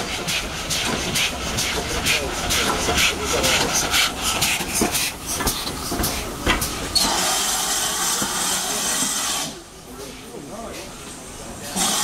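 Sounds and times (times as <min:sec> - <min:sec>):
steam locomotive knocks and clanks: 0:00.0 - 0:09.6, 0:10.6 - 0:12.0
steam hiss: 0:00.0 - 0:09.7, 0:10.8 - 0:12.0.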